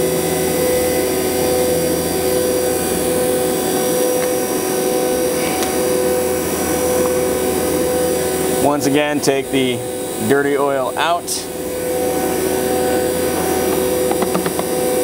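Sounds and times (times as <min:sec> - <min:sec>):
vacuum pumps humming: 0:00.0 - 0:15.0.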